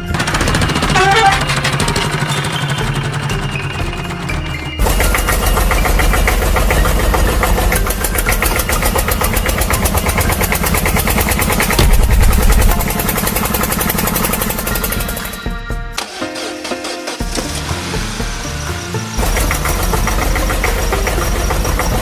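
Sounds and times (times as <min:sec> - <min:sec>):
engine running: 0:00.0 - 0:15.5, 0:16.4 - 0:22.0.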